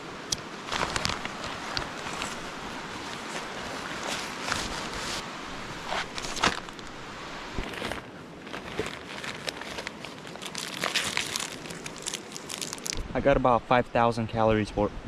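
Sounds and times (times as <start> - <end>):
plastic packaging crinkling: 0.7 - 13.0.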